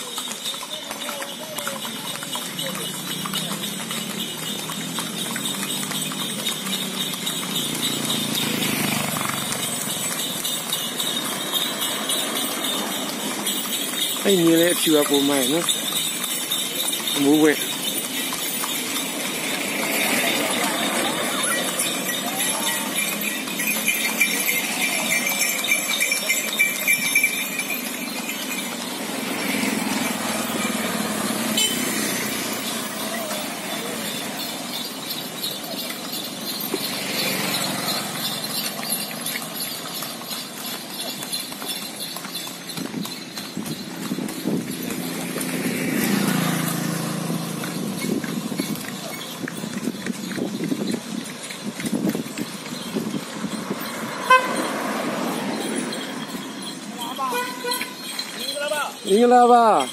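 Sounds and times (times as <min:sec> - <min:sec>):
hooves clip-clopping on asphalt: 0:00.0 - 0:59.9
passing vehicle engine: 0:01.4 - 0:58.4.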